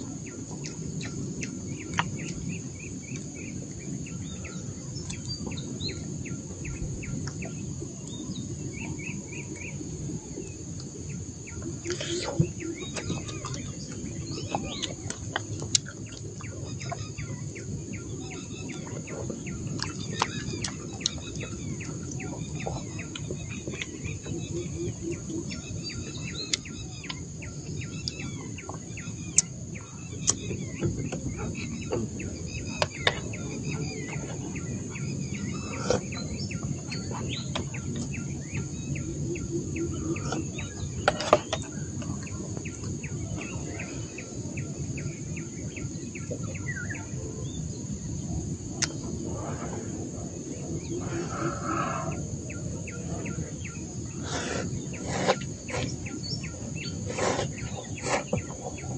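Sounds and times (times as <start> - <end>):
birds chirping: 0.0 - 58.9
high insect drone: 0.0 - 58.9.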